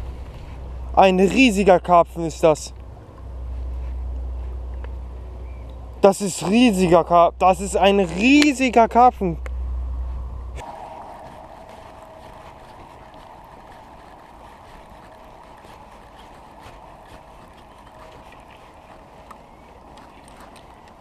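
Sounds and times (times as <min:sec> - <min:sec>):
faint hum: 0:00.0 - 0:21.0
outdoor rush: 0:00.0 - 0:21.0.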